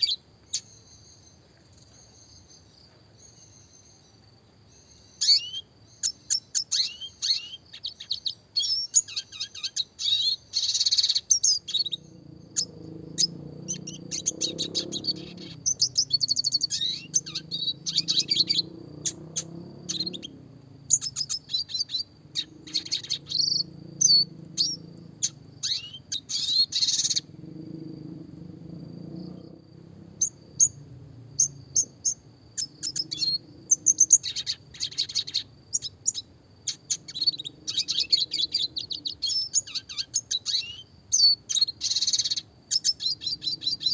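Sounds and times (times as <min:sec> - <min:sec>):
bird singing twittering song: 0:00.0 - 0:43.9.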